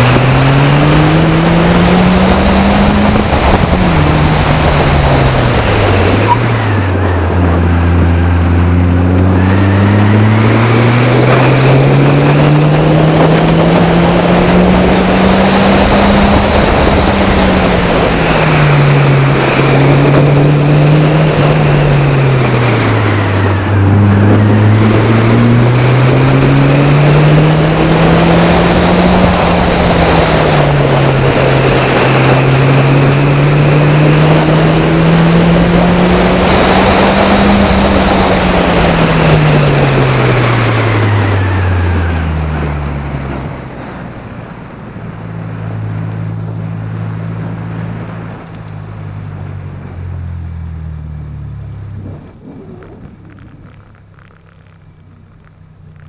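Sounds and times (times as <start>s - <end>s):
car engine revving through gears: 0.0s - 56.0s
wind noise: 0.0s - 56.0s.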